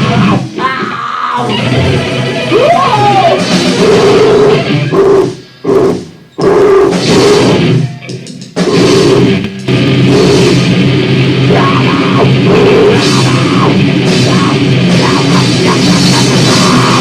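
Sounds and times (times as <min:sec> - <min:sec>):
distorted guitar: 0:00.0 - 0:17.0
drums: 0:00.0 - 0:17.0.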